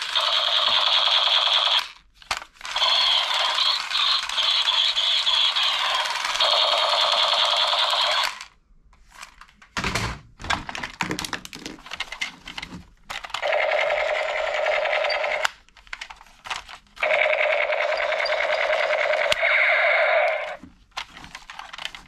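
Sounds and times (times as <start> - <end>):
toy gun rattling: 0.0 - 8.6, 11.6 - 22.0.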